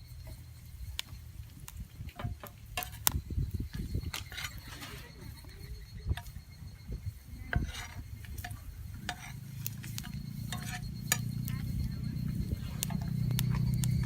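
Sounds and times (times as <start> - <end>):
metal utensil scraping frying pan: 2.1 - 14.0.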